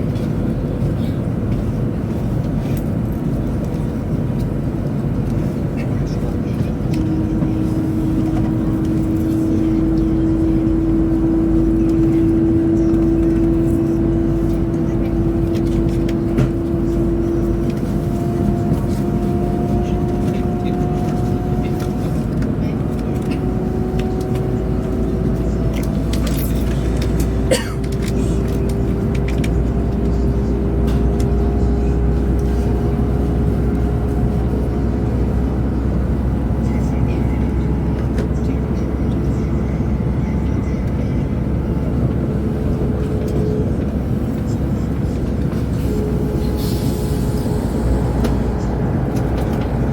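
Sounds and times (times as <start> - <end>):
constant humming tone: 0.0 - 49.9
train cabin low rumble: 0.0 - 49.9.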